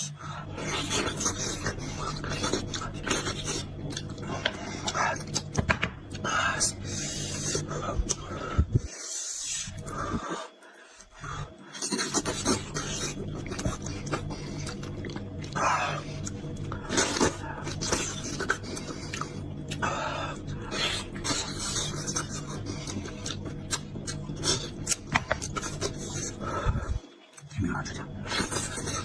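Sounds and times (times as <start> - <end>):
chewing and slurping: 0.4 - 10.4, 11.7 - 27.5.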